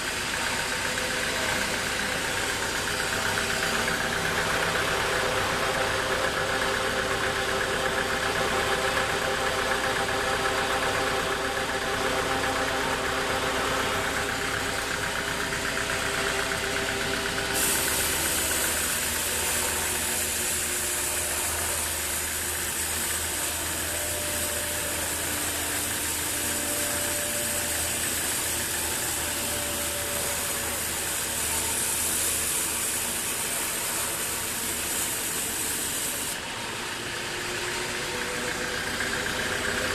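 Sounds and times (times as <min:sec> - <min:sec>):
high hiss: 0:00.0 - 0:39.9
sawmill engine running: 0:00.0 - 0:39.9.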